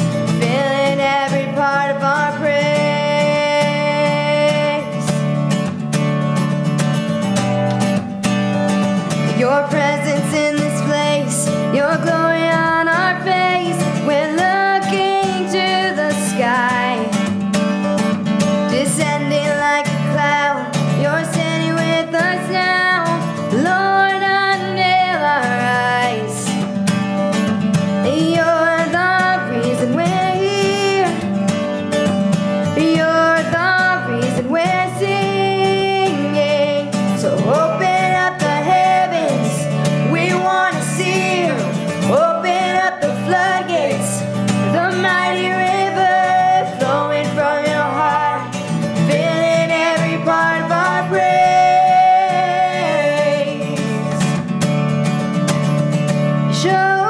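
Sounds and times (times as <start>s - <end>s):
woman singing: 0.0s - 5.4s, 9.1s - 17.4s, 18.5s - 26.7s, 27.9s - 54.5s, 56.4s - 57.0s
guitar accompaniment: 0.0s - 57.0s.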